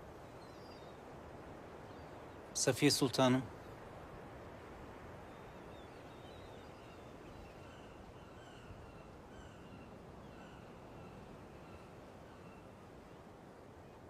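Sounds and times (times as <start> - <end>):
faint background hiss: 0.0 - 14.0.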